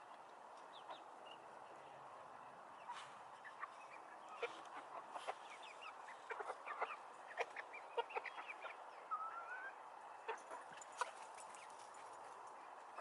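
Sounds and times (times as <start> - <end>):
chickens clucking: 0.6 - 1.2, 2.7 - 13.0.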